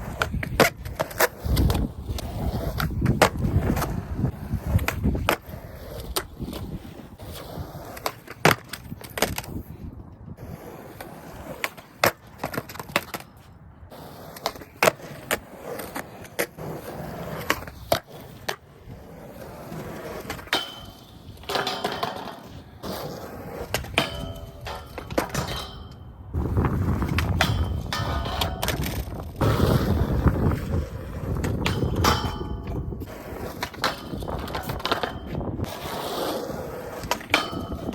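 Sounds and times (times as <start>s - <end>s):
skateboard clacks and knocks: 0.0s - 9.8s, 10.5s - 37.9s
skateboard rolling on pavement: 0.0s - 37.9s.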